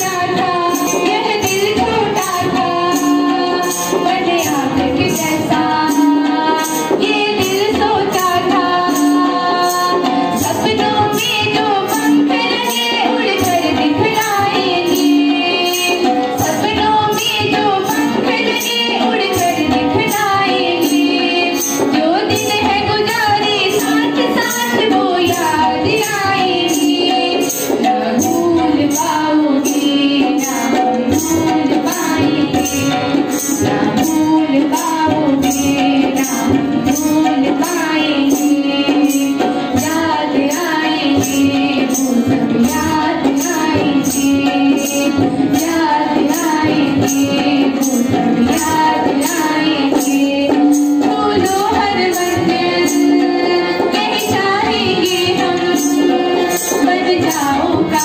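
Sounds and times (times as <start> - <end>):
girls singing together: 0.0 - 58.0
hand drum: 0.0 - 58.0
harmonium drone: 0.0 - 58.0.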